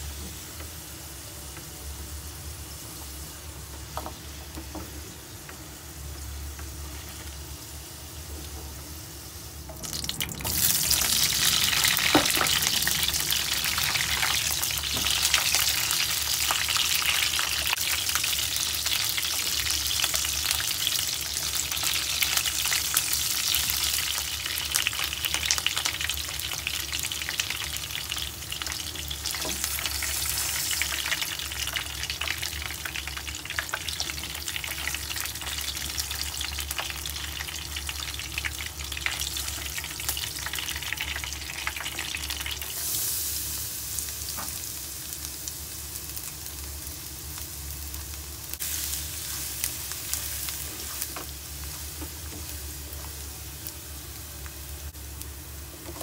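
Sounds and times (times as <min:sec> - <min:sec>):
oil sizzling in frying pan: 0:00.0 - 0:56.0.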